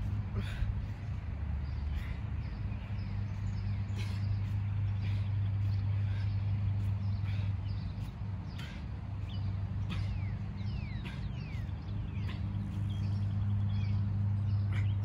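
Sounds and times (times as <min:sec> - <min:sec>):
machinery engine hum: 0:00.0 - 0:15.0.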